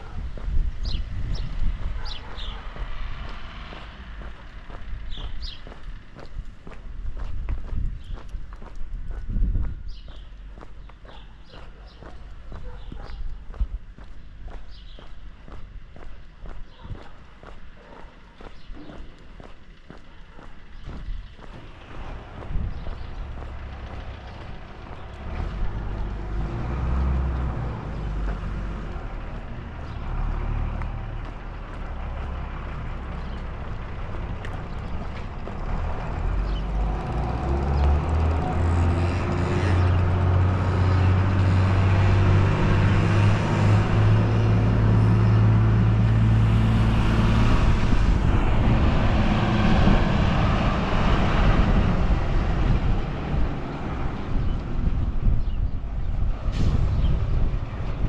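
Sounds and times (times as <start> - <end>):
vehicle engine running: 0.0 - 55.5.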